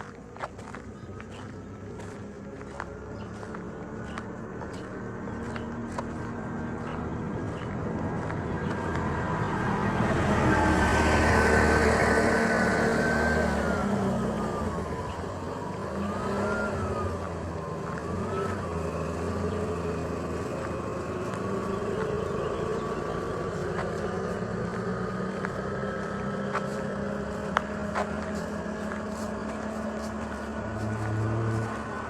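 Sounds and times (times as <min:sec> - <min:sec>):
vehicles passing: 0:00.0 - 0:32.0.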